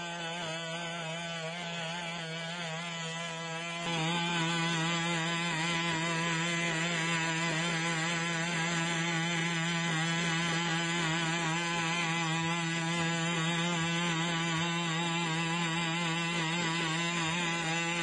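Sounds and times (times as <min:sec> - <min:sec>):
small two-stroke engine droning: 0:00.0 - 0:18.0.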